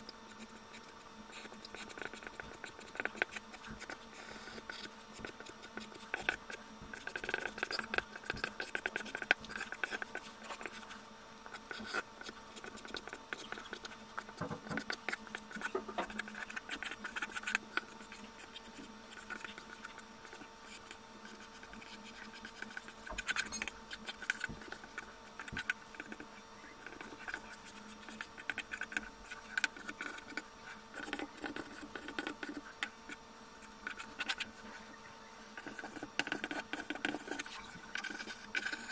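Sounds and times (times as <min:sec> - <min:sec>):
faint steady hum: 0:00.0 - 0:38.9
pencil scratching on paper: 0:00.3 - 0:34.9, 0:35.6 - 0:38.9.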